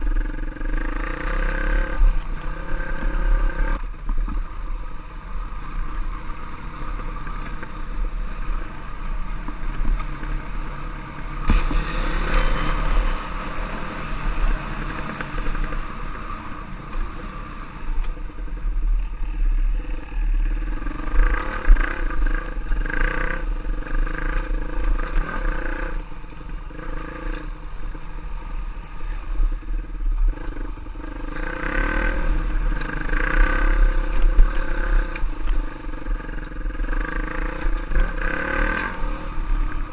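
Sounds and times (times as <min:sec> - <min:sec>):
motorcycle engine revving: 0:00.0 - 0:04.0, 0:05.8 - 0:39.9.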